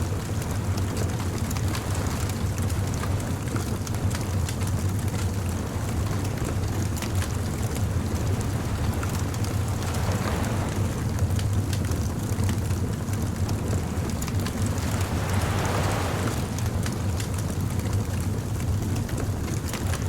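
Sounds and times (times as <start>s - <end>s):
bonfire crackling and popping: 0.1s - 20.0s.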